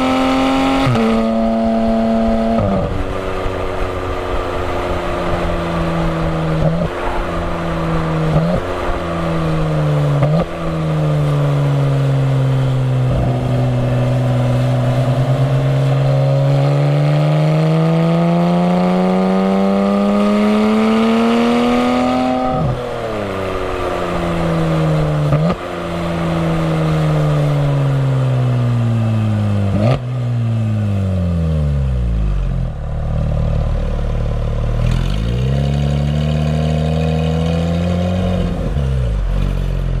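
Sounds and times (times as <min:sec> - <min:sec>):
sports car engine revving: 0:00.0 - 0:40.0.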